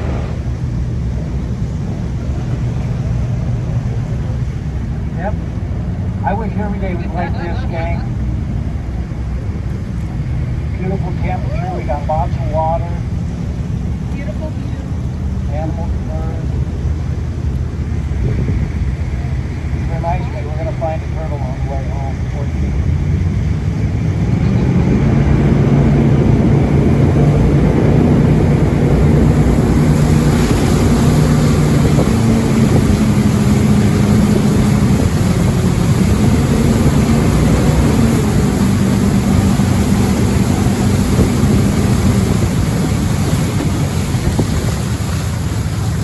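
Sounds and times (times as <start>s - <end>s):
jet boat engine drone: 0.0s - 46.0s
rushing water and wind: 0.0s - 46.0s.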